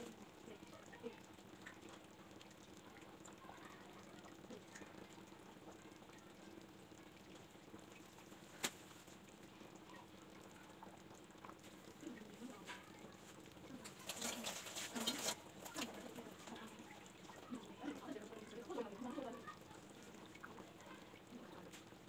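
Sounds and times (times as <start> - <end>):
broth bubbling with small pops: 0.0 - 22.0.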